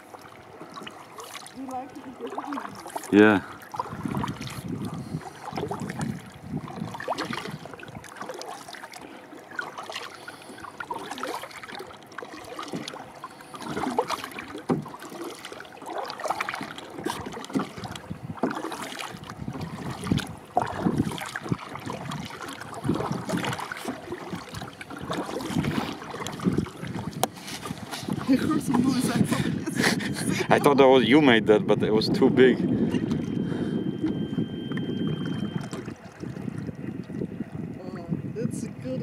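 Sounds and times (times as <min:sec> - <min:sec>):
water splashing against a kayak: 0:00.0 - 0:39.0.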